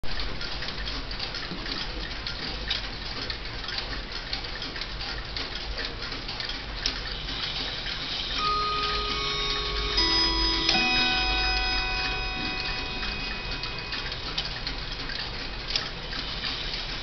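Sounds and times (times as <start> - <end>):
clock ticking: 0.0 - 17.0
sharp clock click: 0.1 - 16.7.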